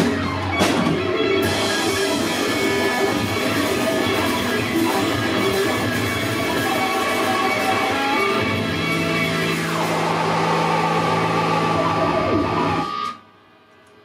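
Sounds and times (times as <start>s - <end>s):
drums playing: 0.0s - 12.9s
electric guitars ringing: 0.0s - 13.2s.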